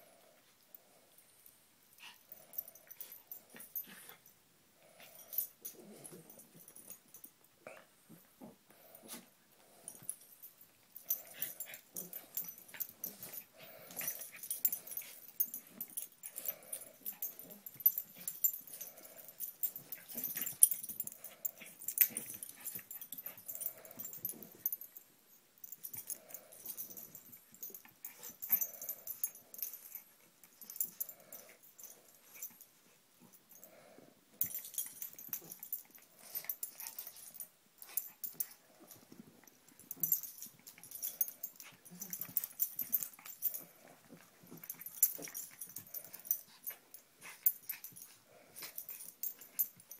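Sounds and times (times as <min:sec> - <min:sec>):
dogs growling and huffing: 0:02.0 - 0:25.0, 0:25.6 - 0:32.6, 0:33.2 - 0:49.9.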